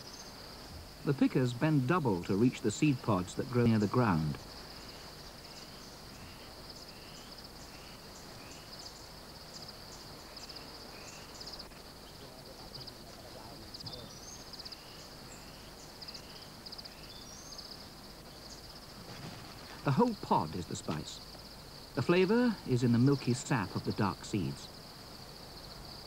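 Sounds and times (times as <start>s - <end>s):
insect chorus with pulsing trill: 0.0s - 26.0s.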